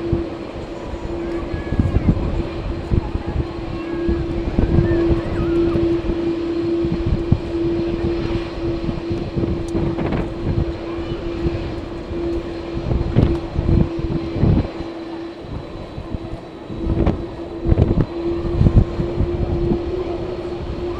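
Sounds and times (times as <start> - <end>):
airliner engine drone: 0.0 - 20.9
wind buffeting microphone: 0.0 - 20.9.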